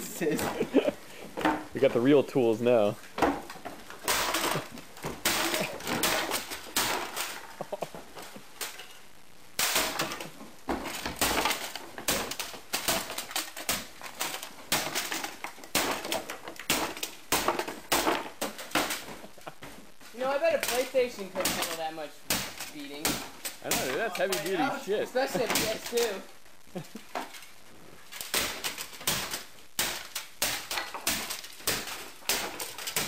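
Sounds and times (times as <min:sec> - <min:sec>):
bat smashing plastic console: 0:03.2 - 0:08.9, 0:09.6 - 0:26.2, 0:28.1 - 0:33.0.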